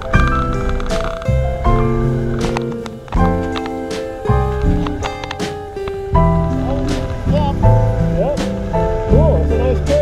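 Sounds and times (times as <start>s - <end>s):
background music with sliding melody: 0.0s - 10.0s.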